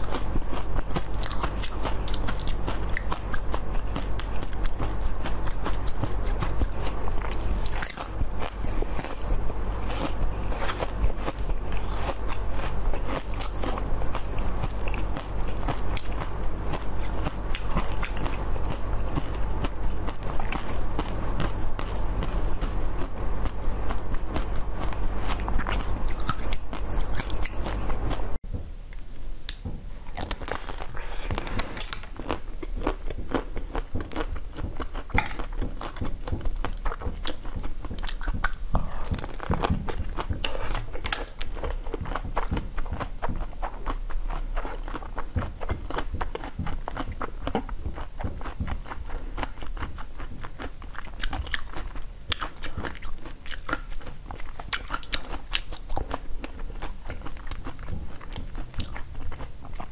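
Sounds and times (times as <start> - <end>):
chewing: 0.0 - 28.2, 28.9 - 59.9
crunching ice cream coating: 0.0 - 28.2, 29.5 - 59.9.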